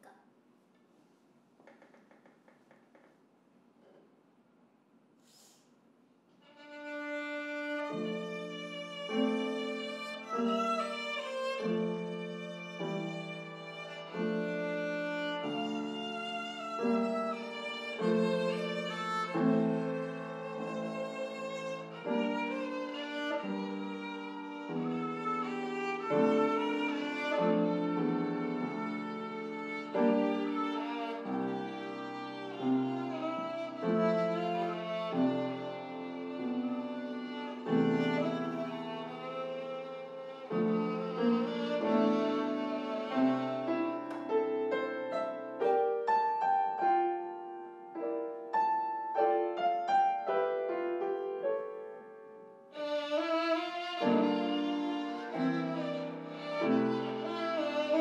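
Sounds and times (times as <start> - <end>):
violin melody: 6.4 - 52.1, 52.7 - 58.0
piano chords: 6.5 - 58.0.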